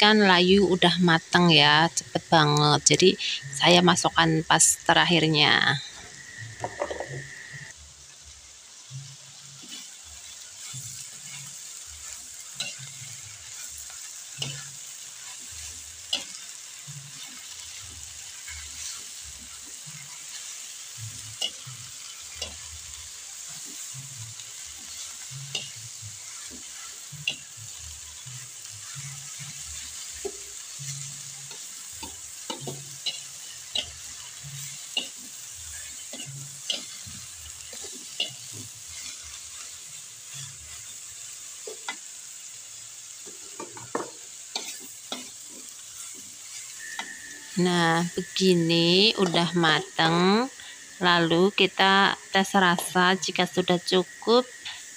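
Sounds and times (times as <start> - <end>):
vegetables sizzling in pan: 0.0 - 54.9.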